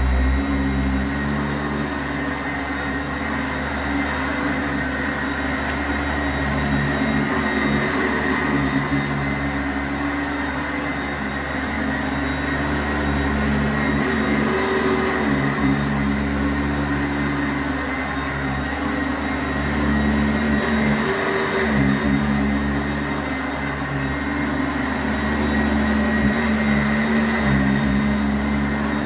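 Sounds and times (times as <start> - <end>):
upright vacuum cleaner running: 0.0 - 29.0.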